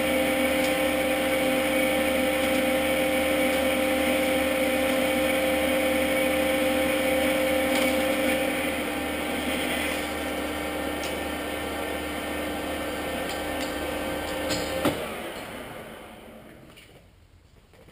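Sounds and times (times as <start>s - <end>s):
metal lathe whining and humming: 0.0s - 16.6s.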